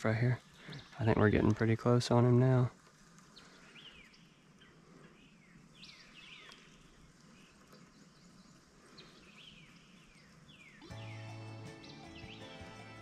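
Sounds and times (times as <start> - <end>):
soft steady hiss: 0.0 - 12.1
birds chirping: 0.0 - 13.0.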